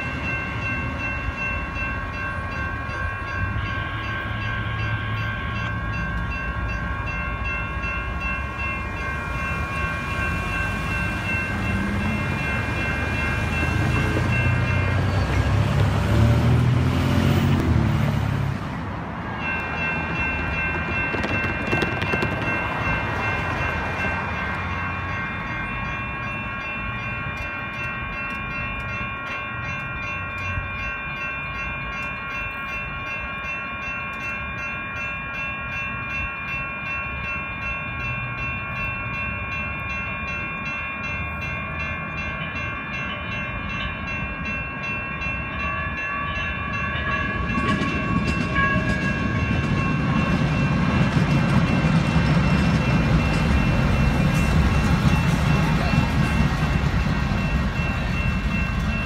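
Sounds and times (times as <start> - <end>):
railroad crossing bells ringing: 0.0 - 59.0
train rumbling: 0.0 - 59.0.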